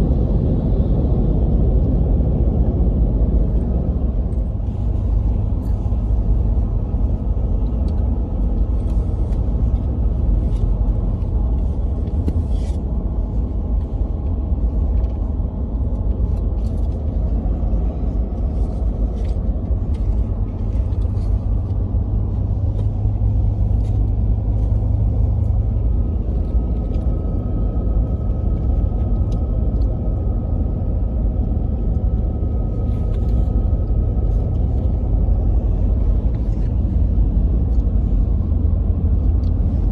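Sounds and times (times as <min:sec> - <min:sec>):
low rumble of vehicle: 0:00.0 - 0:39.9.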